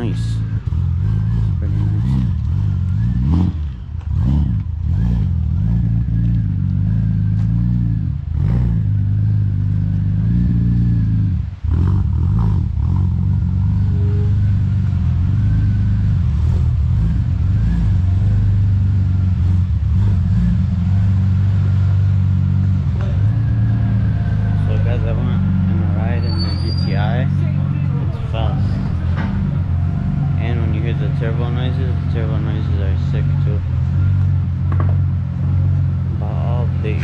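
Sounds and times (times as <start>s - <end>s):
car engine running loudly: 0.0s - 37.0s.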